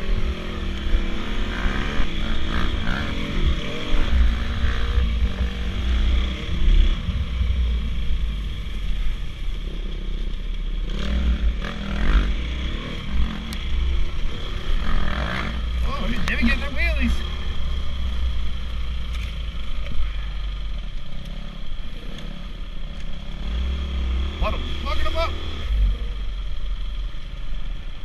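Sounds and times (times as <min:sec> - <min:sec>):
dirt bike engine revving: 0:00.0 - 0:19.0, 0:20.0 - 0:27.0.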